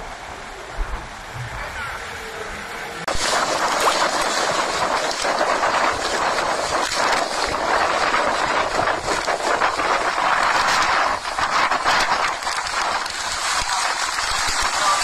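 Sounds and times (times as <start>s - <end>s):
strong wind and rain rushing: 0.0s - 15.0s.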